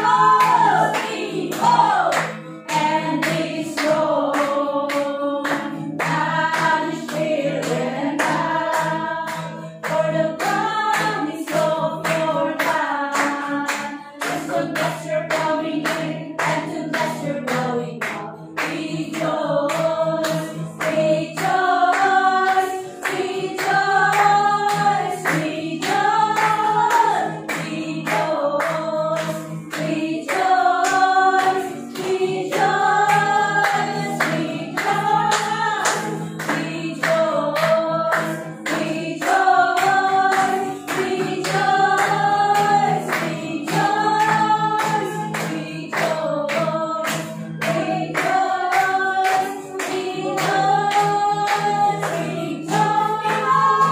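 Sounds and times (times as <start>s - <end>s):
group singing worship song: 0.0s - 53.9s.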